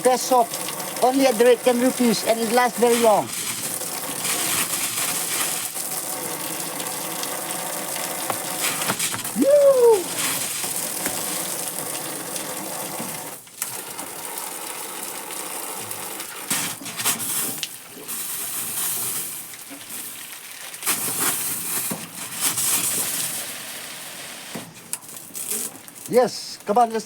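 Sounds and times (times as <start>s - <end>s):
water pouring from pipe splashing: 0.0s - 27.0s.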